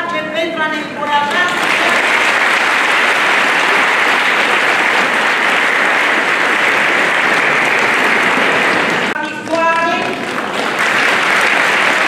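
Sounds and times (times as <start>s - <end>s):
large crowd applauding: 1.3s - 12.0s.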